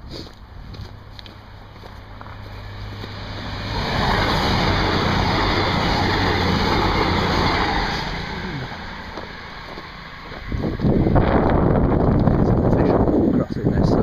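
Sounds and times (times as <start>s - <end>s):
passenger train passing: 0.0s - 13.4s.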